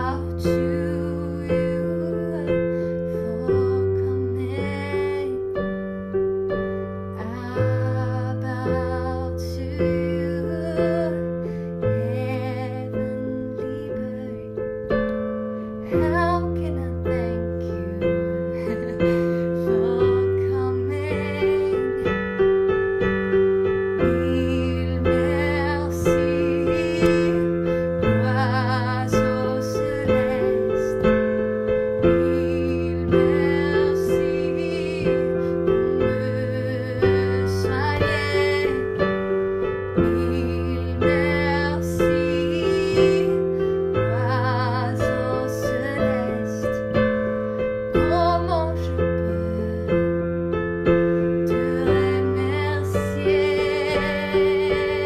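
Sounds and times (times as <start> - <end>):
woman singing: 0.0 - 5.8, 7.1 - 15.2, 15.8 - 22.4, 23.6 - 50.2, 50.9 - 55.0
electric piano chords: 0.0 - 55.0.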